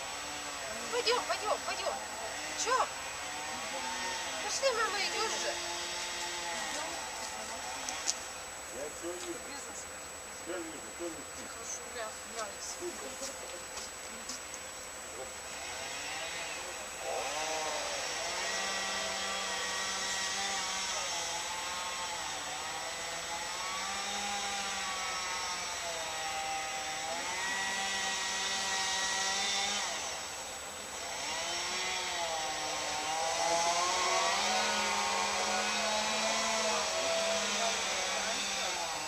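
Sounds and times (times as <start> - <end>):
chainsaw running: 0.0 - 39.0.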